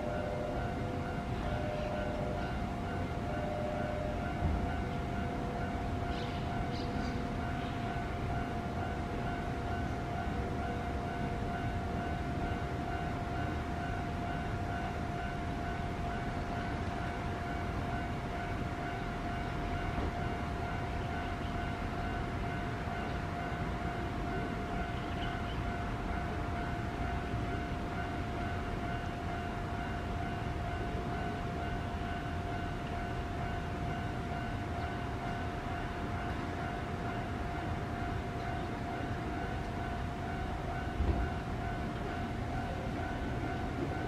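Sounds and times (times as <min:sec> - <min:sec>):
constant background hum: 0:00.0 - 0:44.0
railway warning tone: 0:00.0 - 0:44.0.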